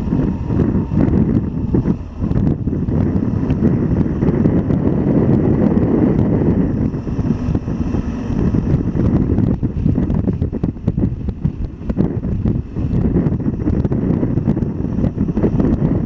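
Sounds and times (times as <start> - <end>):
motorcycle engine: 0.0 - 16.0
wind on microphone: 0.0 - 16.0.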